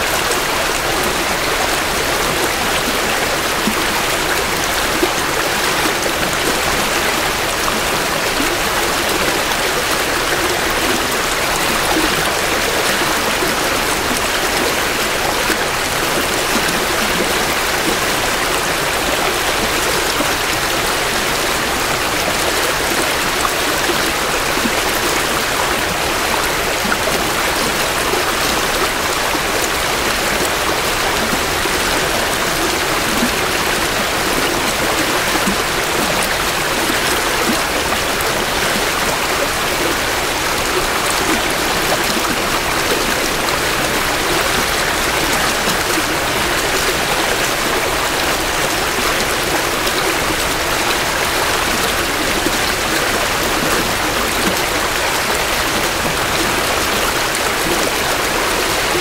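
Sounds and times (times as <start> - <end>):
creek water burbling over stones: 0.0 - 59.0.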